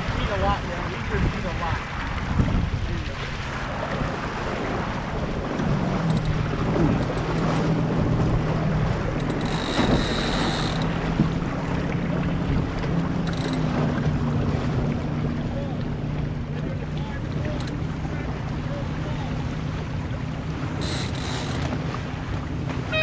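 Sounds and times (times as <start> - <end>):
wind buffeting microphone: 0.0 - 20.9
water washing along hull: 0.0 - 23.0.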